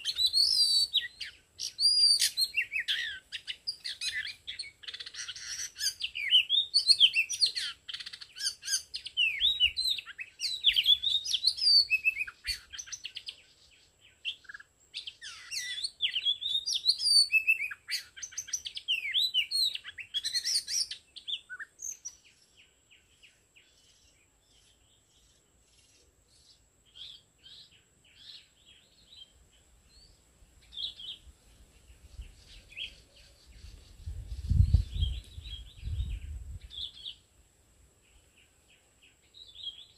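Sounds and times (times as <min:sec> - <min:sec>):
bird singing whistles and warbles: 0:00.0 - 0:37.3, 0:38.2 - 0:39.9.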